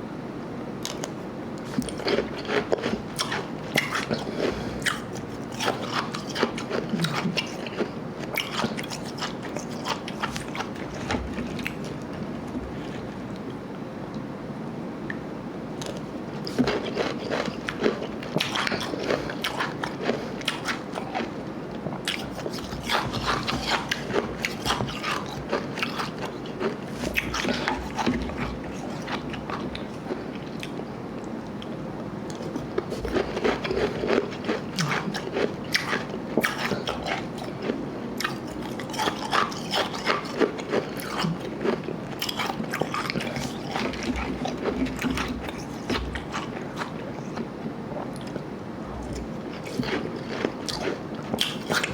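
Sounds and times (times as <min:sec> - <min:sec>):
chewing and crunching ice: 0:00.8 - 0:13.2, 0:15.8 - 0:30.9, 0:32.3 - 0:51.9.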